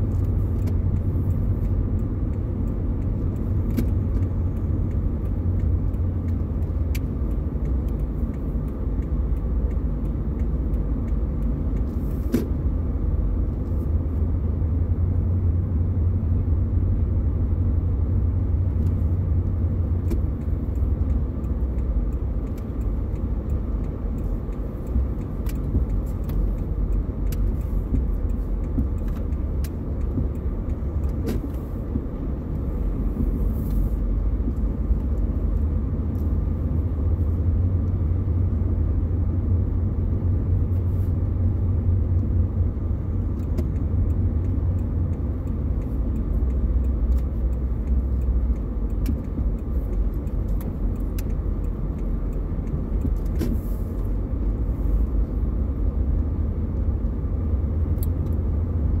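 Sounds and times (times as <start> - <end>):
engine and tyres rumbling: 0.0 - 59.0.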